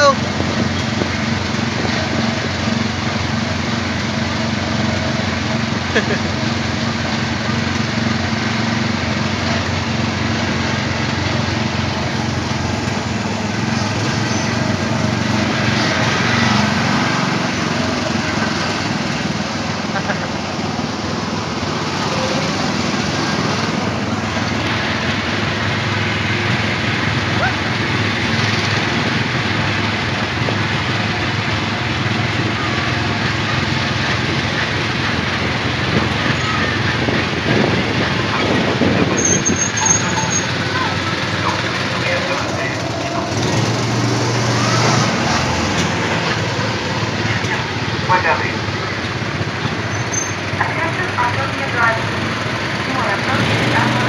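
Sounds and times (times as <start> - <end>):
small petrol engine droning: 0.0 - 54.0.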